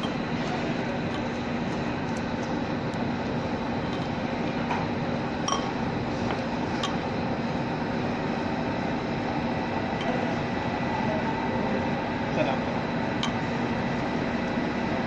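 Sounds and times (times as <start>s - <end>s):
background machine noise: 0.0s - 15.0s.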